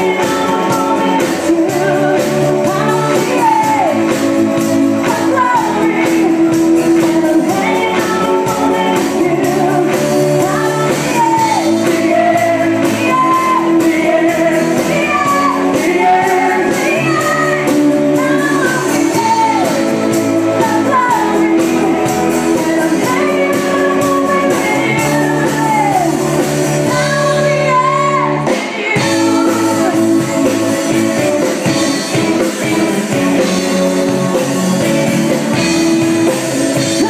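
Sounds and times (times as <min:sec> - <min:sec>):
bass guitar: 0:00.0 - 0:37.0
drum kit: 0:00.0 - 0:37.0
keyboard: 0:00.0 - 0:37.0
person singing: 0:00.0 - 0:37.0.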